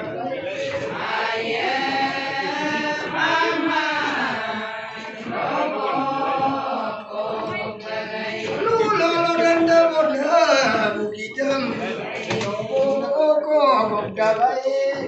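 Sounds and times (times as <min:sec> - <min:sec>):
women singing in unison: 0:00.0 - 0:11.0, 0:11.6 - 0:14.2.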